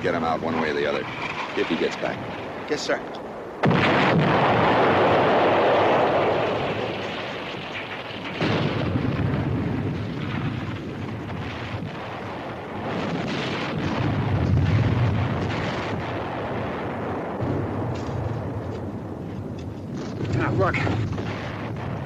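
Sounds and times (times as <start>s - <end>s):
shell explosions rumbling: 0.0s - 22.0s.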